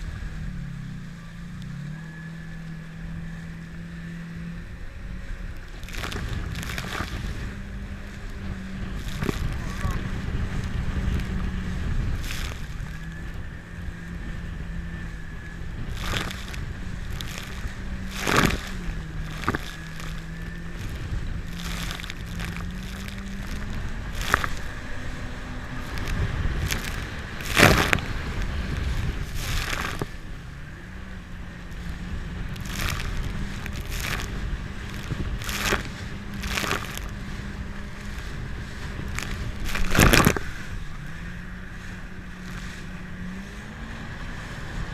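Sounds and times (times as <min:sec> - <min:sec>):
jet ski engine running: 0:00.0 - 0:44.9
water splashing: 0:02.5 - 0:43.7
wind noise: 0:02.9 - 0:44.9.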